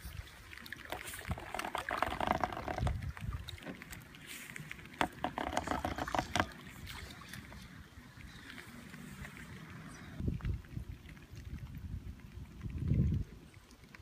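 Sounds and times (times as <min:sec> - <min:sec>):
paddle splashing water: 0:00.0 - 0:14.0
water dripping: 0:00.0 - 0:14.0.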